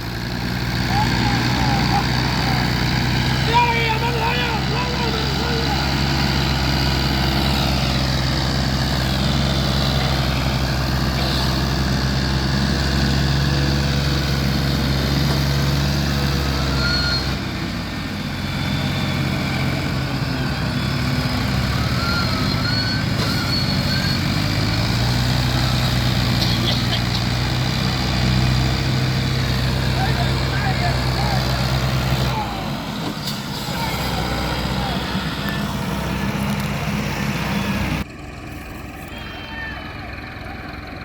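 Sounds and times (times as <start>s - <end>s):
tractor engine running under load: 0.0s - 41.0s.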